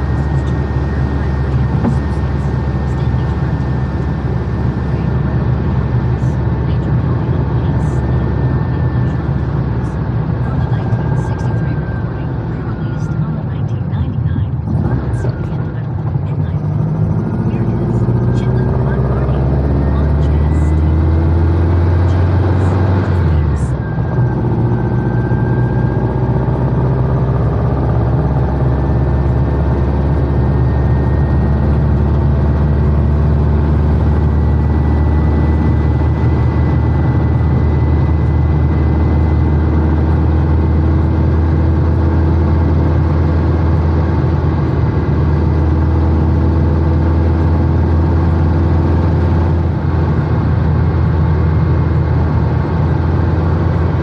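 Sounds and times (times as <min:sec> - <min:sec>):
car engine drone from inside cabin: 0:00.0 - 0:54.0.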